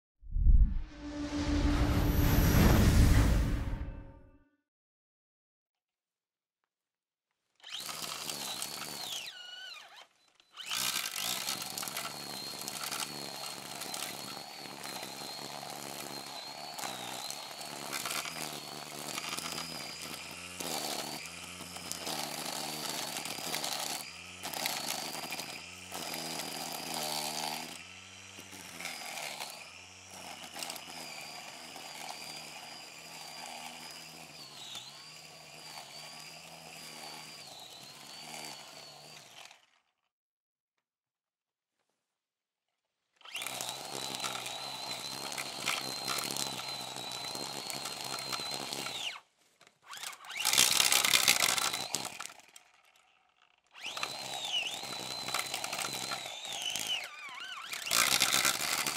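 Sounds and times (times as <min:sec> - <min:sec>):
brush cutter running: 0:07.6 - 0:39.9, 0:43.2 - 0:58.9.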